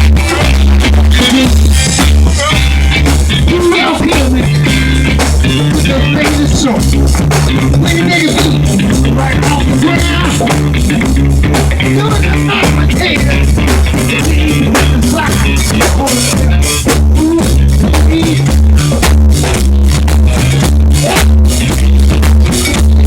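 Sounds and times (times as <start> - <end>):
funk groove music: 0.0 - 23.0.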